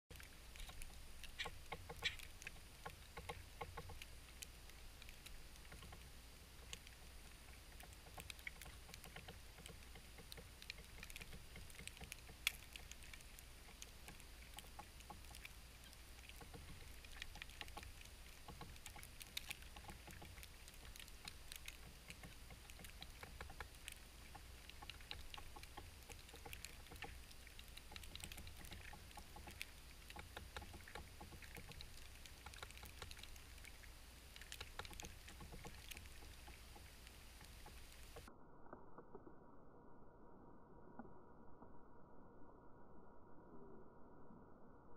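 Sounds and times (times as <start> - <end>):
low steady rumble: 0.1 - 44.9
woodpecker pecking: 0.3 - 38.3.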